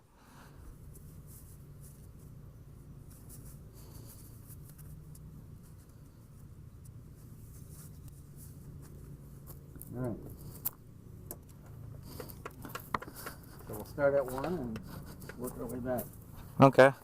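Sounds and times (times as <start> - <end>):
low hum: 0.0 - 16.6
handling rustling and scratching: 0.8 - 16.7.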